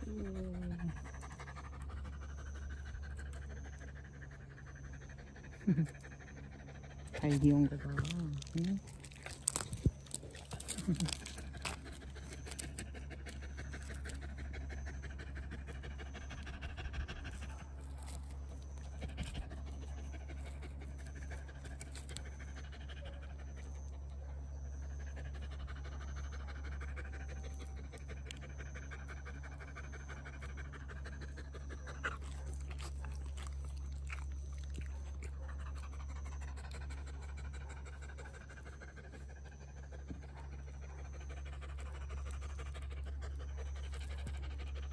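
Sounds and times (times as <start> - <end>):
dog panting: 0.0 - 44.9.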